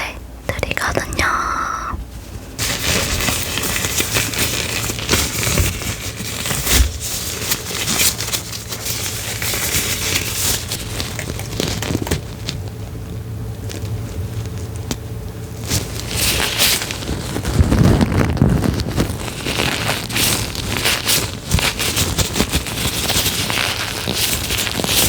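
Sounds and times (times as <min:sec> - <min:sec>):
crackling crinkling handling noise: 0:02.0 - 0:25.0.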